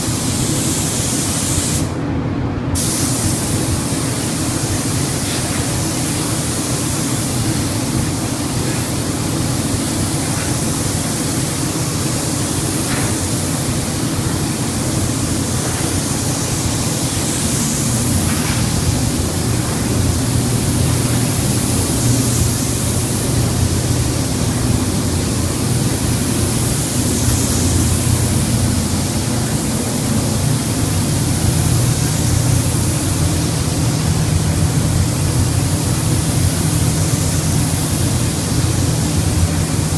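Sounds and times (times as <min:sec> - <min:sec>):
spray gun hissing: 0:00.0 - 0:01.9, 0:02.8 - 0:39.9.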